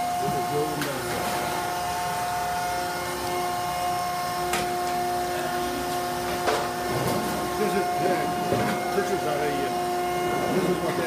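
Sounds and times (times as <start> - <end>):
hydraulic pump motor humming: 0.0 - 11.0.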